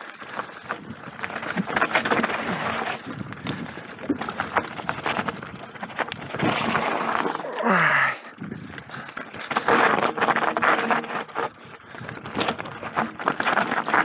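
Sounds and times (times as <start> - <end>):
bike clattering and rattling: 0.0 - 14.0
tyres crunching over loose stones: 0.0 - 14.0.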